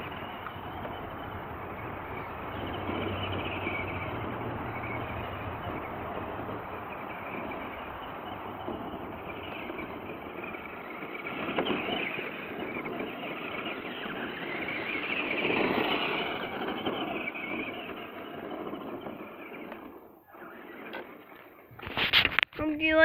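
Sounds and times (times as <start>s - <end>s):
toy truck tyres churning gravel: 0.0s - 23.0s.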